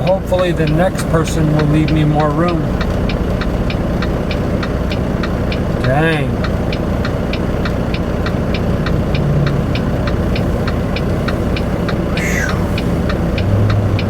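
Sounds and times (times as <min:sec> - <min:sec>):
truck engine idling: 0:00.0 - 0:14.0
turn signal clicking: 0:00.0 - 0:14.0.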